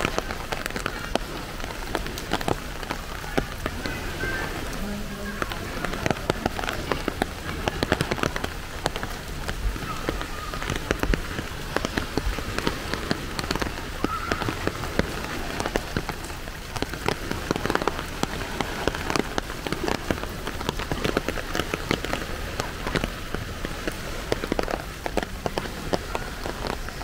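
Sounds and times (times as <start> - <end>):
rain falling: 0.0 - 27.0
raindrops ticking on surfaces: 0.0 - 27.0.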